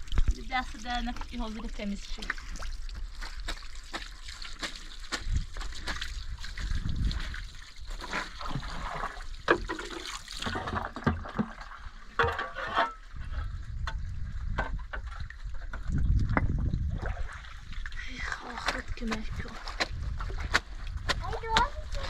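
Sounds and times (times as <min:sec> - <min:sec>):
water splashing by hand: 0:00.0 - 0:12.4, 0:15.0 - 0:22.0
water trickling: 0:00.0 - 0:22.0.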